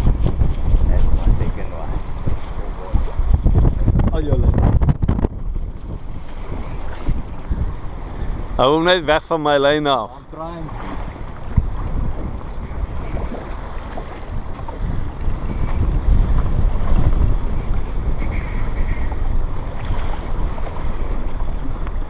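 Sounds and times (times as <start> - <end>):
waves washing against boat: 0.0 - 22.0
wind buffeting microphone: 0.0 - 22.0.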